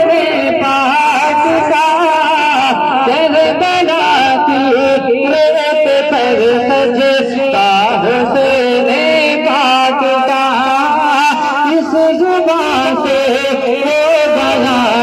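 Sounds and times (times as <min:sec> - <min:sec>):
man singing ornamented melody: 0:00.0 - 0:15.0.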